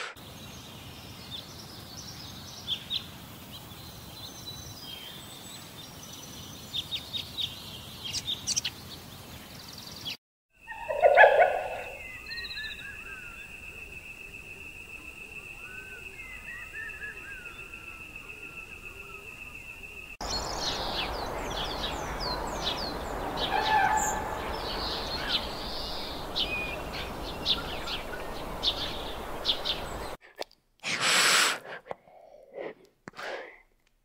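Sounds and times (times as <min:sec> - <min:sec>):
birds chirping: 0:00.0 - 0:30.2
noisy outdoor background: 0:00.0 - 0:34.0.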